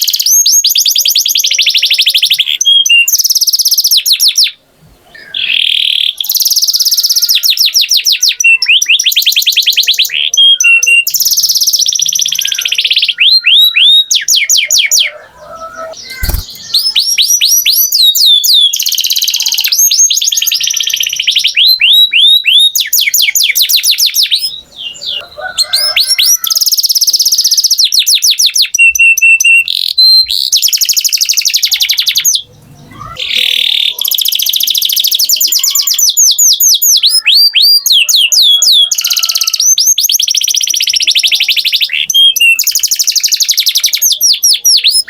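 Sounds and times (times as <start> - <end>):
canary singing: 0.0 - 45.0.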